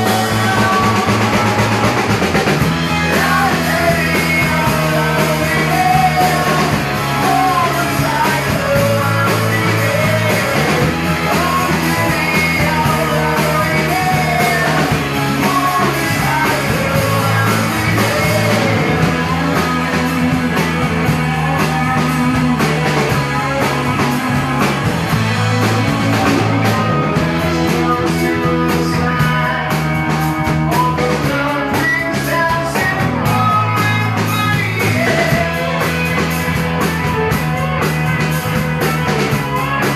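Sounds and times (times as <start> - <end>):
man singing into a microphone: 0.0 - 36.4
drum kit: 0.0 - 39.9
electric guitars: 0.0 - 39.9.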